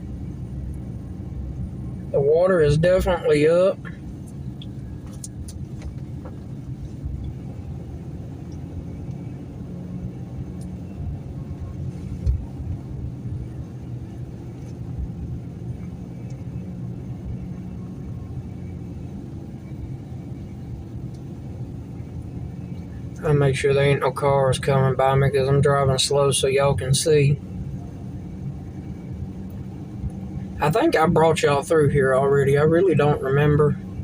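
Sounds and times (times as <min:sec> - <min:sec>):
truck engine and road rumble: 0:00.0 - 0:34.0.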